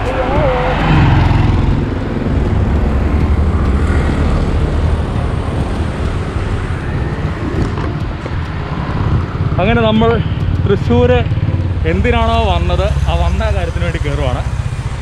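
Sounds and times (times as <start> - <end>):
moving car rumble: 0.0 - 15.0.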